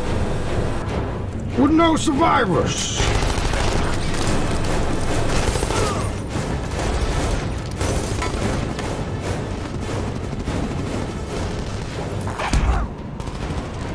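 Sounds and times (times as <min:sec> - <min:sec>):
dramatic film score: 0:00.0 - 0:13.9.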